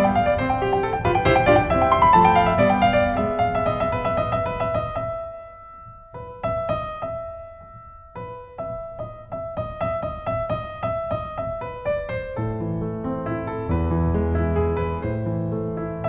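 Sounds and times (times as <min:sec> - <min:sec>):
piano notes in repeating pattern: 0:00.0 - 0:16.0.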